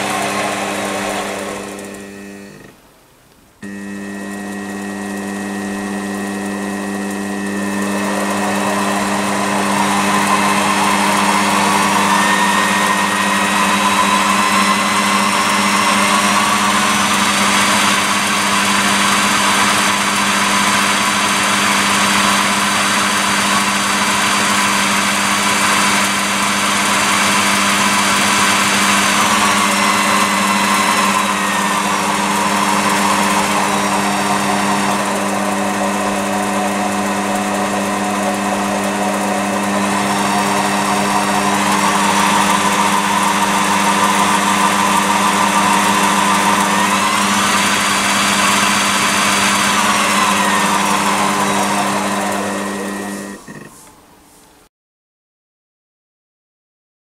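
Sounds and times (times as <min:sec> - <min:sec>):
machine motor whining: 0:00.0 - 0:02.8, 0:03.6 - 0:54.0.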